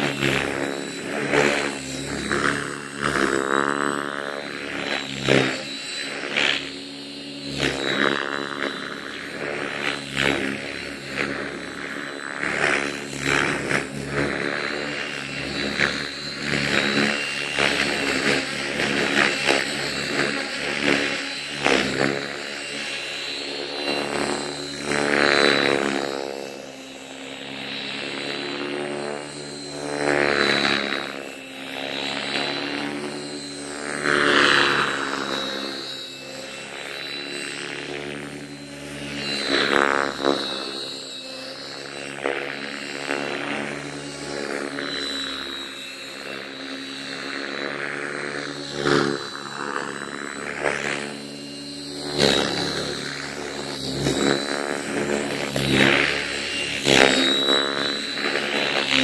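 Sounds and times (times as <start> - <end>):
helicopter rotor blades whooshing: 0.0 - 59.0
motor whine: 0.0 - 59.0.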